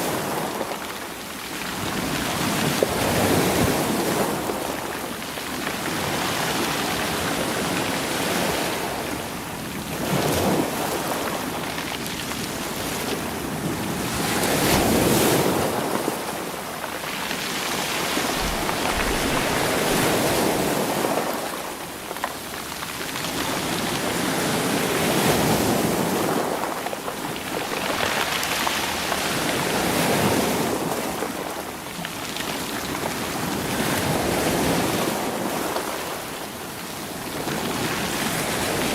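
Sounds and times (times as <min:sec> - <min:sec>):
waves washing over stones: 0:00.0 - 0:38.9.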